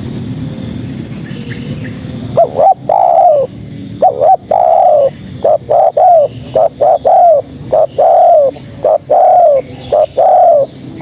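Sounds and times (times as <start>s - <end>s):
dove cooing: 1.9s - 11.0s.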